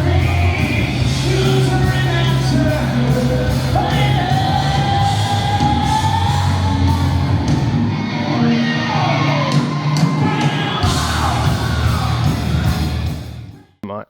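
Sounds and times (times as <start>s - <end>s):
live rock band playing: 0.0s - 13.5s.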